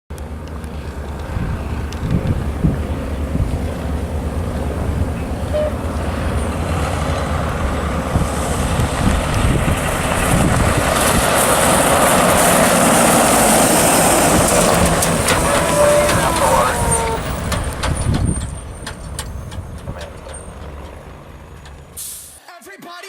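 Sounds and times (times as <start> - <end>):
fire engine driving: 0.1 - 22.4.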